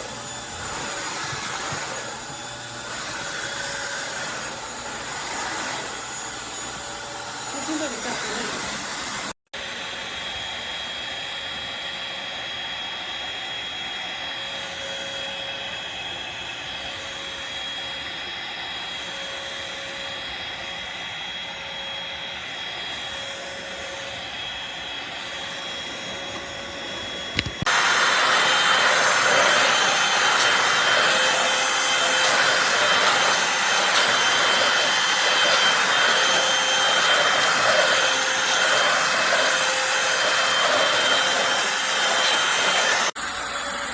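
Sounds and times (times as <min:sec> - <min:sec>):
stick vacuum motor running: 0:00.0 - 0:11.4, 0:18.7 - 0:43.9.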